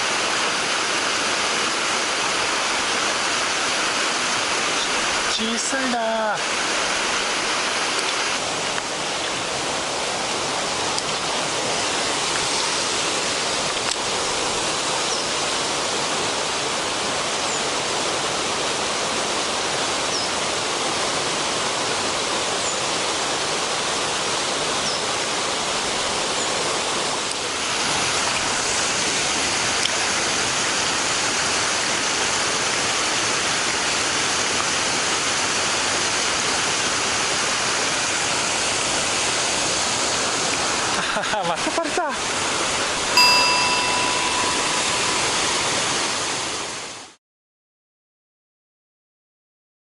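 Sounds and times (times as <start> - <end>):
mountain stream rushing: 0.0 - 47.2.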